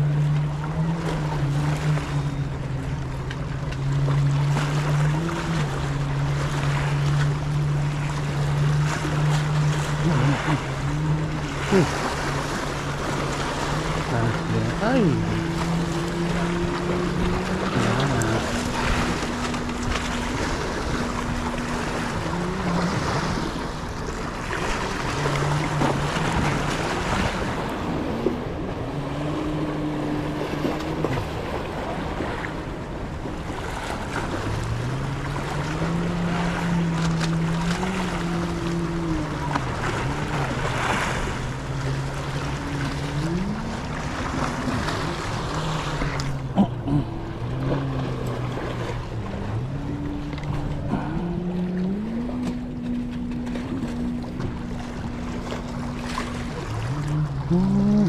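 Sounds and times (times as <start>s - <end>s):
motorboat engine hum: 0.0s - 58.0s
waves: 0.0s - 58.0s
wind: 0.0s - 58.0s.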